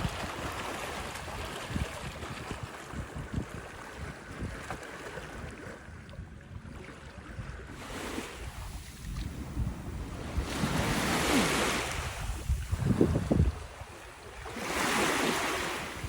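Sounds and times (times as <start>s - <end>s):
waves washing against board: 0.0s - 5.9s, 7.7s - 16.0s
wind buffeting microphone: 0.0s - 16.0s.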